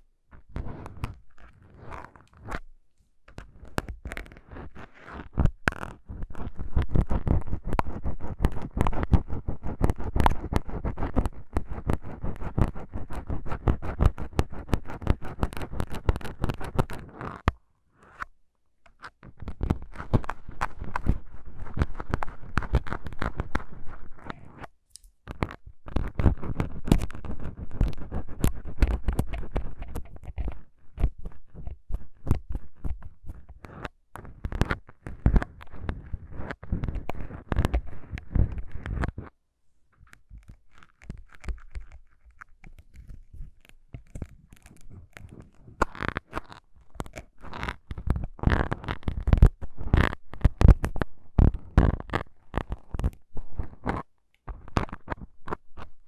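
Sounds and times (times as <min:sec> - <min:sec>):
needles scratching foam windscreen: 0:00.4 - 0:02.6, 0:03.4 - 0:17.4, 0:19.0 - 0:24.7, 0:25.3 - 0:39.3, 0:40.2 - 0:56.0.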